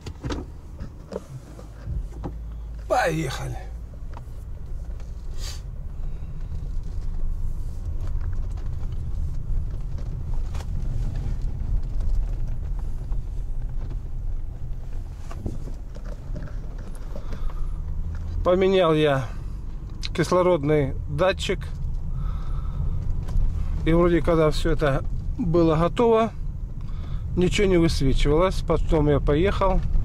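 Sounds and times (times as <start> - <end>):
car cabin rumble: 0.0 - 30.0.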